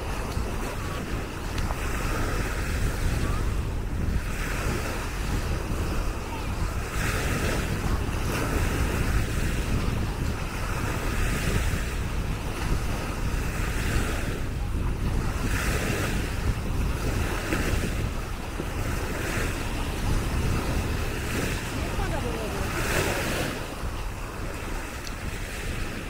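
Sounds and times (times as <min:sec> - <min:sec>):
waves washing up a sandy shore: 0:00.0 - 0:26.0
wind rumbling on microphone: 0:00.0 - 0:26.0.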